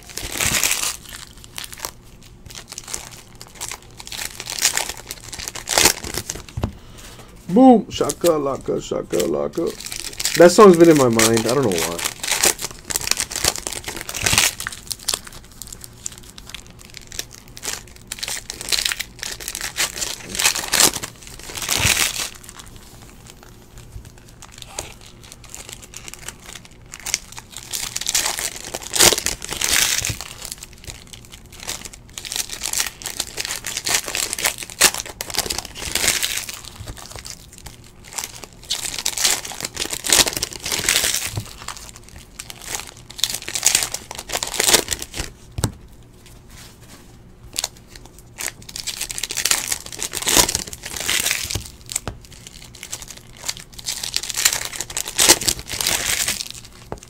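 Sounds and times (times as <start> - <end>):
foil wrappers crinkling and tearing: 0.0 - 57.0.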